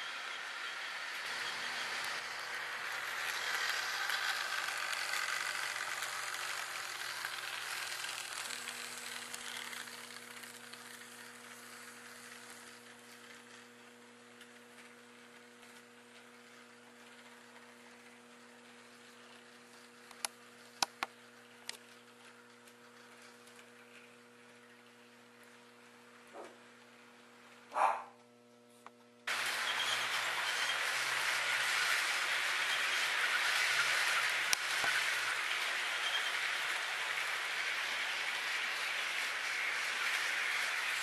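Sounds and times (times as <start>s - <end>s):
model train cars rolling: 0.0s - 27.7s, 29.2s - 41.0s.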